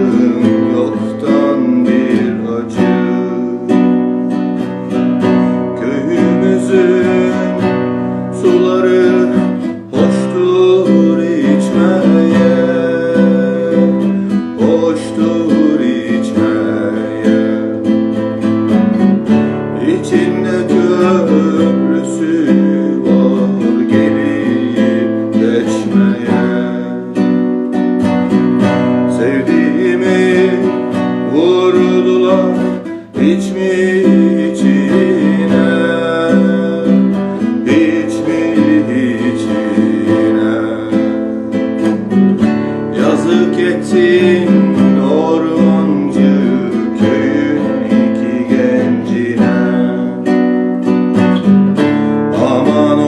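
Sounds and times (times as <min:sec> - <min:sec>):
plucked string instrument melody: 0:00.0 - 0:53.0.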